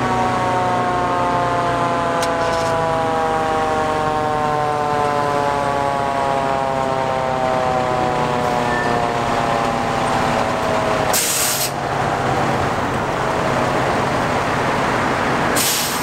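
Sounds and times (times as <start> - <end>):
fire engine siren: 0.0 - 16.0
truck engine running: 0.0 - 16.0.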